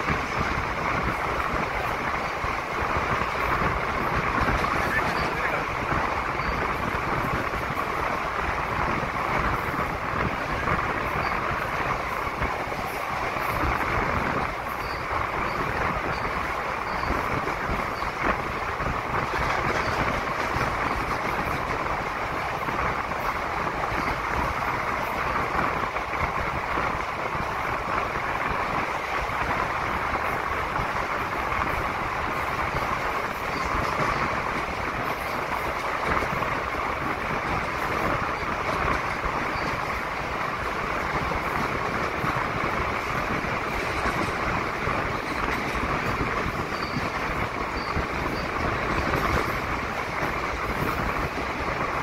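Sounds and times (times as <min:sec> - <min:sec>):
train wheels on rails in tunnel: 0:00.0 - 0:52.0.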